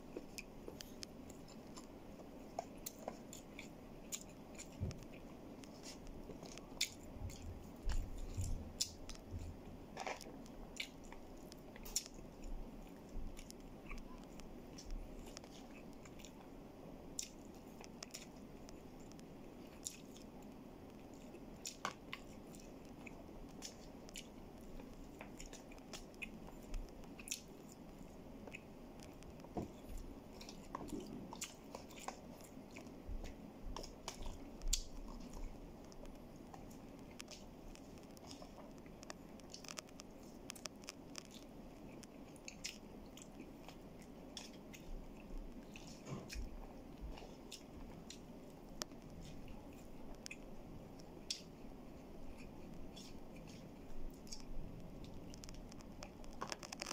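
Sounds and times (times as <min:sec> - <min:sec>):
close-up chewing: 0:00.0 - 0:56.9.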